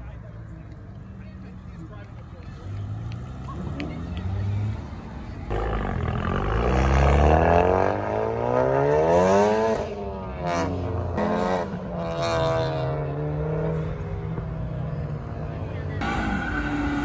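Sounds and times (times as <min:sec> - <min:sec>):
car engines accelerating hard: 0:00.2 - 0:17.0.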